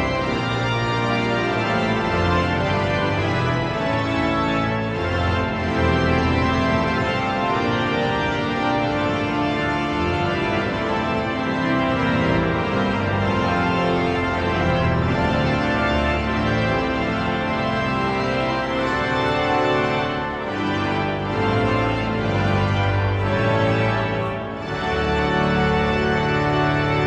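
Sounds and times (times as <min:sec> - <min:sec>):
pipe organ chords: 0:00.0 - 0:27.0.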